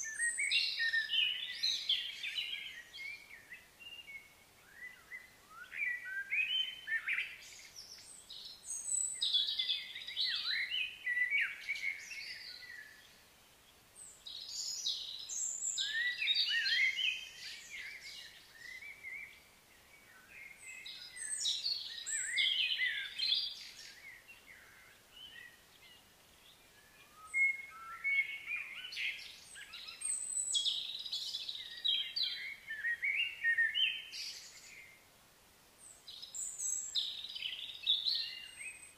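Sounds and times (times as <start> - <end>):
birds chirping and warbling: 0.0 - 35.1, 35.8 - 38.9.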